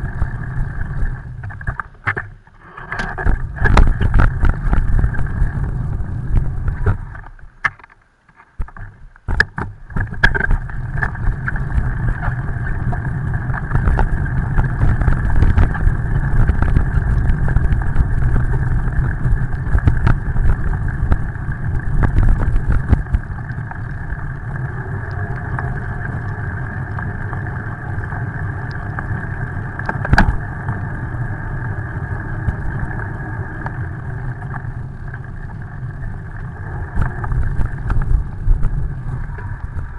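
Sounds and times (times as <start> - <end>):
wind rush on microphone: 0.0 - 7.6, 8.6 - 39.9
tyre noise on wet pavement: 0.0 - 39.9.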